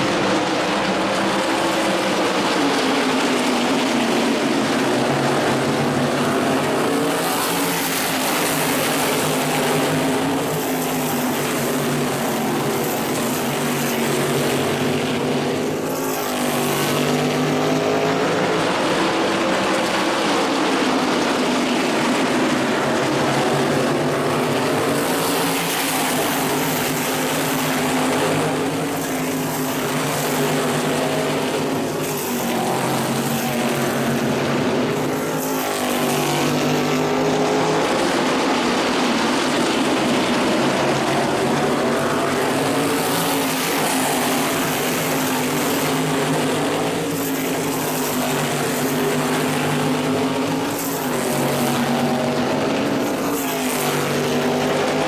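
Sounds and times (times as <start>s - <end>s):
race car engines passing by: 0.0s - 55.0s.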